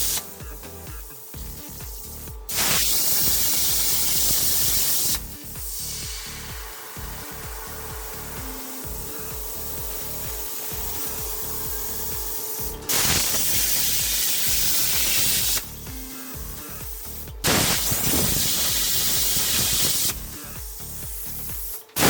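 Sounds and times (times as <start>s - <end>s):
background music: 0.0s - 22.0s
plasma cutting torch hissing: 0.0s - 22.0s.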